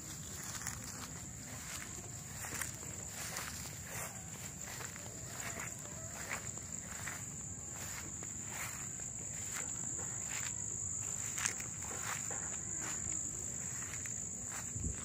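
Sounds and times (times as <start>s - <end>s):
high-pitched insect drone: 0.1s - 15.0s.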